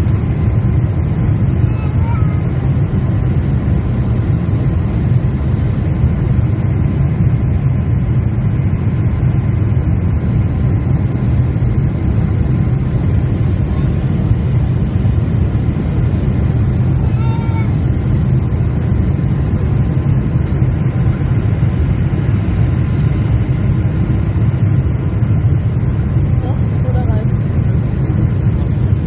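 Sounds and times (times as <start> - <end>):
jet engines rumbling in cabin: 0.0 - 29.0.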